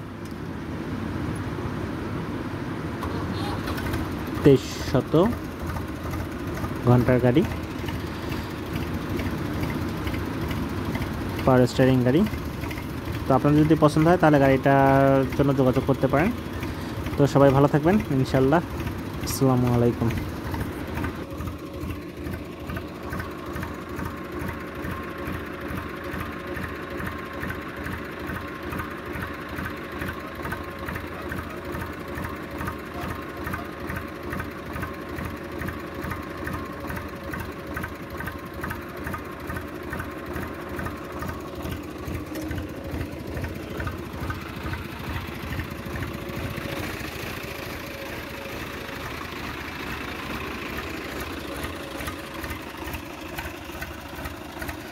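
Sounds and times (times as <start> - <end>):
tractor diesel engine idling: 2.4 - 54.9.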